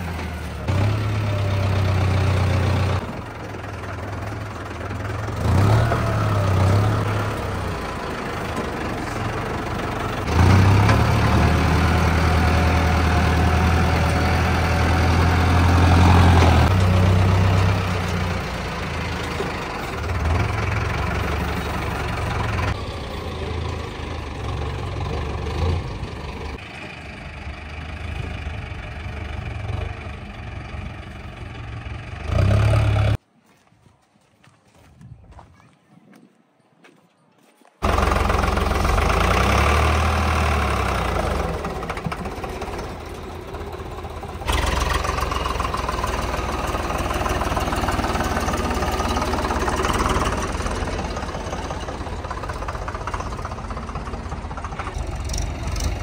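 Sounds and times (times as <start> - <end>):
diesel engine revving: 0.0 - 33.2, 37.8 - 56.0.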